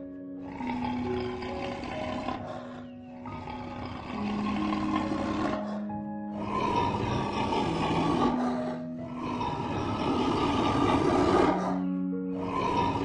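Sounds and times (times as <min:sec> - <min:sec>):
sustained background music: 0:00.0 - 0:13.0
harsh animal calls: 0:00.4 - 0:13.0.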